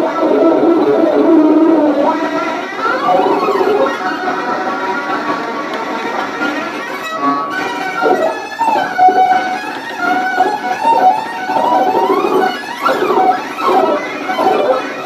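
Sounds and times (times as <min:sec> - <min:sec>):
violin slow eerie melody: 0:00.0 - 0:15.0.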